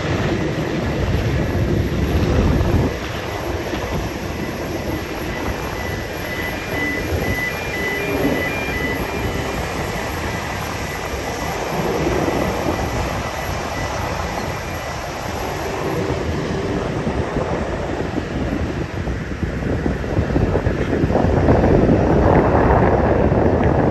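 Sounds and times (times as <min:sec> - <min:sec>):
jet engines rumbling: 0:00.0 - 0:23.9.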